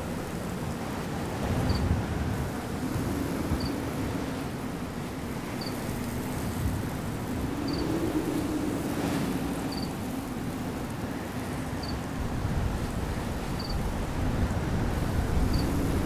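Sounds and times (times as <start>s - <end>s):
steady wind: 0.0s - 16.0s.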